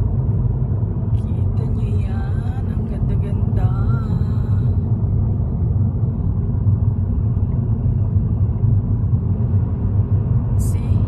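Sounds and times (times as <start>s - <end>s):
car interior engine and tyre noise: 0.0s - 11.0s.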